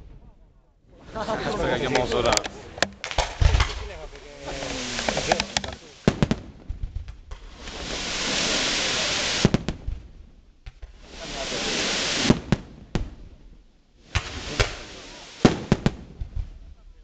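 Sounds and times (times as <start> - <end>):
firework hiss: 1.2 - 16.9
firework bangs: 1.2 - 17.0.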